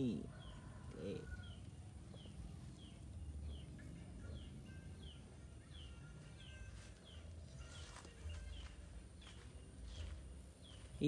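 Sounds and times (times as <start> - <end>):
faint low outdoor rumble: 0.0 - 11.0
small bird chirping: 0.0 - 11.0.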